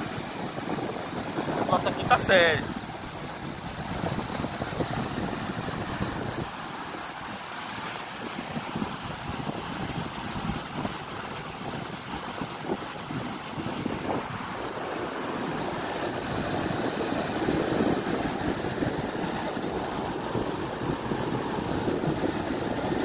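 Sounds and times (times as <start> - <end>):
floodwater rushing and churning: 0.0 - 23.0
wind buffeting microphone: 0.0 - 23.0.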